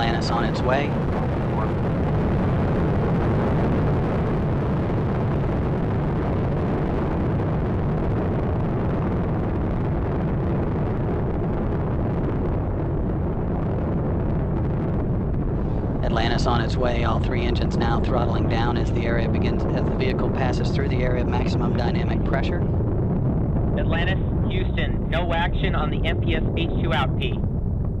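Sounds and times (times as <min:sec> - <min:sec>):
rocket engines deep rumble: 0:00.0 - 0:28.0.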